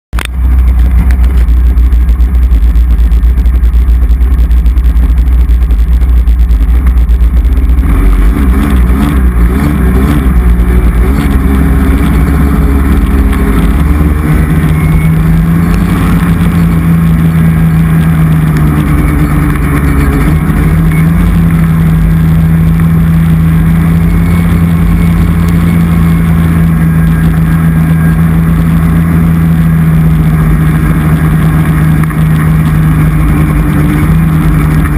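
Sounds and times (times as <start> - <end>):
snowmobile engine rumbling: 0.1 - 34.9.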